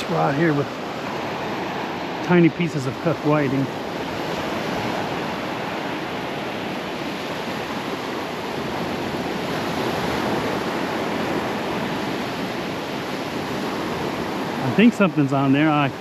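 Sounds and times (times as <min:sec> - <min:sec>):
surf washing onto sandy beach: 0:00.0 - 0:16.0.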